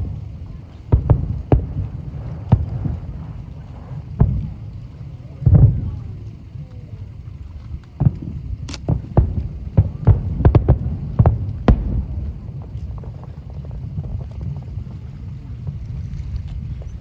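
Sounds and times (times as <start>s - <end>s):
firework shells bursting: 0.0s - 17.0s
low rumble with small cracks: 0.0s - 17.0s.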